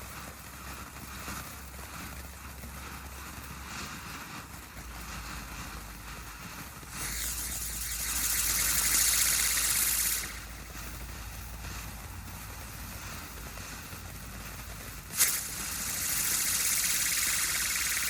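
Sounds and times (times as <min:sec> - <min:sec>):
firework fountain hissing sparks: 0:00.0 - 0:18.0.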